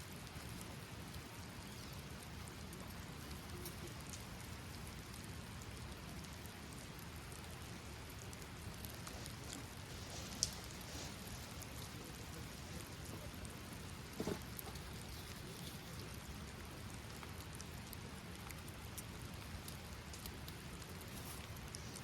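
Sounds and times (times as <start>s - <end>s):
raindrops ticking on a surface: 0.0s - 22.0s
steady rain falling: 0.0s - 22.0s.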